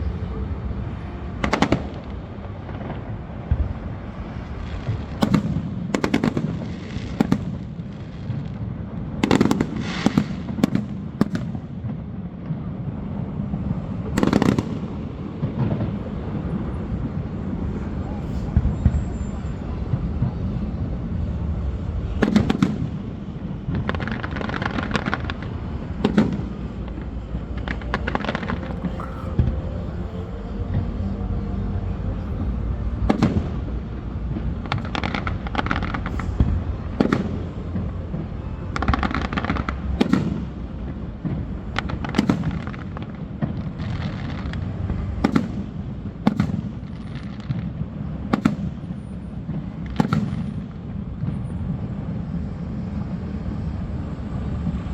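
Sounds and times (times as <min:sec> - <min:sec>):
fireworks crackling: 0:00.0 - 0:54.9.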